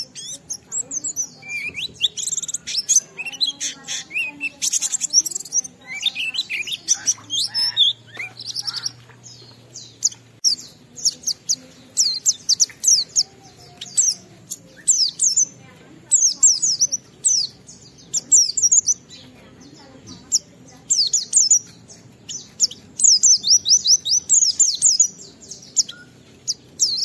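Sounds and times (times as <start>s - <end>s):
bird singing fast chirps: 0.0s - 27.0s.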